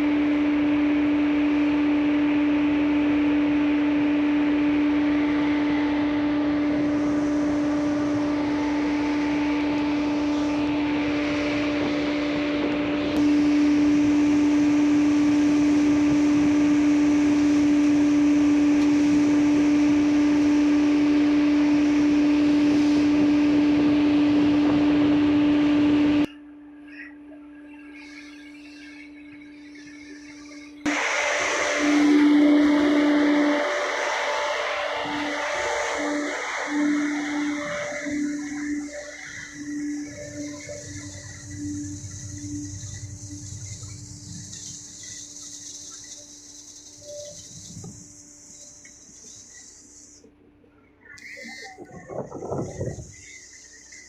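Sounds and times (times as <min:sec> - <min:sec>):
machinery noise: 0:00.0 - 0:50.3
ship engine droning: 0:00.0 - 0:54.0.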